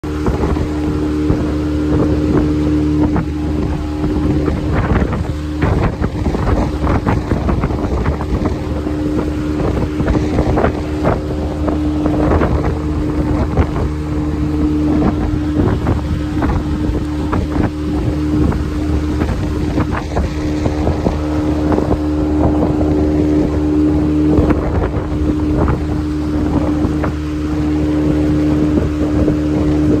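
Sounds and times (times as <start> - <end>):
outboard motor humming: 0.0 - 30.0
wind buffeting microphone: 0.0 - 30.0.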